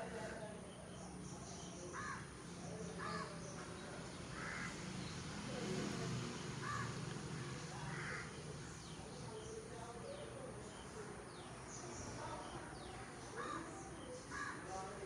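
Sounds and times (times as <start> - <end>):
faint bird calls: 0.0 - 5.1, 6.6 - 15.0.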